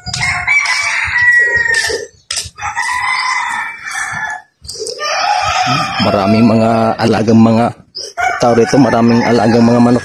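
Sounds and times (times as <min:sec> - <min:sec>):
rooster crowing: 0:00.0 - 0:06.8, 0:08.2 - 0:10.0.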